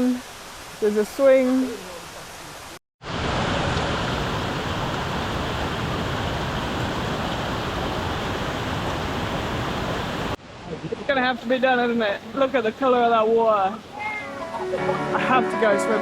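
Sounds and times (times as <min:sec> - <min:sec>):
waterfall rushing: 0:00.1 - 0:16.0.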